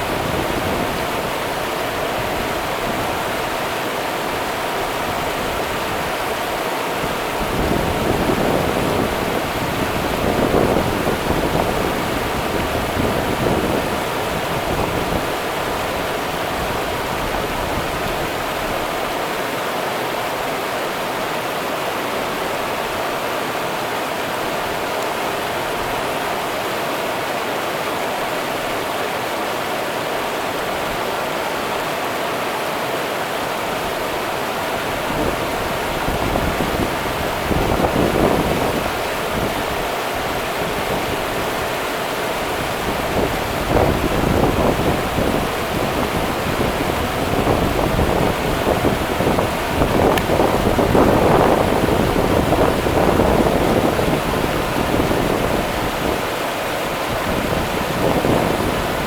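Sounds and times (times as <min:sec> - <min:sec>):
river water rushing: 0:00.0 - 0:59.0
surges of water: 0:00.0 - 0:59.0.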